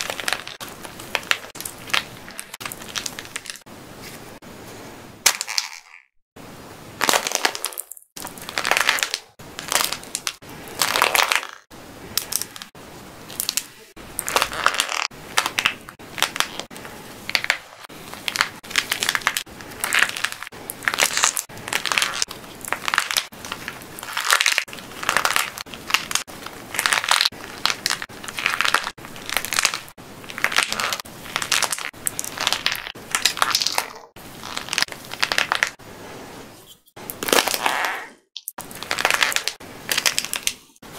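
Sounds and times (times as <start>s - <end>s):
dry clay shell crackling and crunching: 0.0s - 3.7s, 7.0s - 35.8s, 37.0s - 40.8s.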